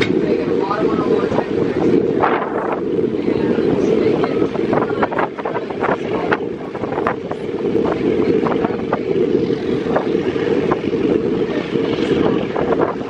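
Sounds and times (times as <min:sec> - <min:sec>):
train rumbling: 0:00.0 - 0:13.0
wind buffeting microphone: 0:00.0 - 0:13.0.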